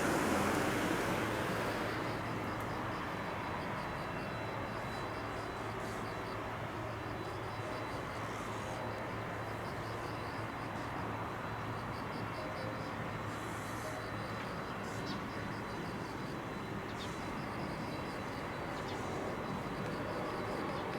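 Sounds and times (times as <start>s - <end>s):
outdoor background hum: 0.0s - 20.9s.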